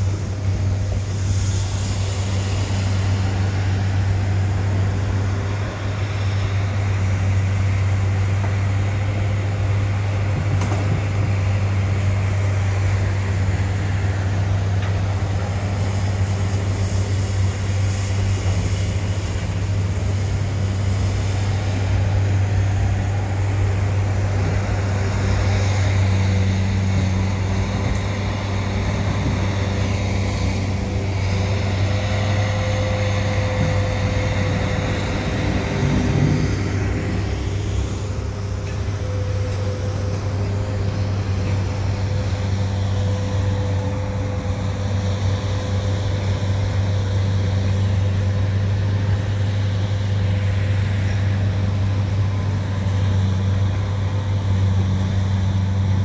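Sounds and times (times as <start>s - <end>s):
low engine drone: 0.0s - 56.0s
train rolling past: 0.0s - 56.0s.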